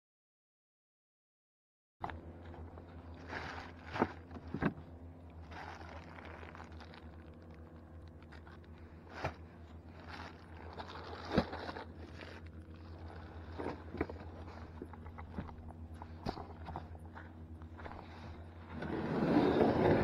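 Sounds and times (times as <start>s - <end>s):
low steady hum: 2.0s - 20.0s
rustling and scraping on plastic kayak: 2.0s - 20.0s.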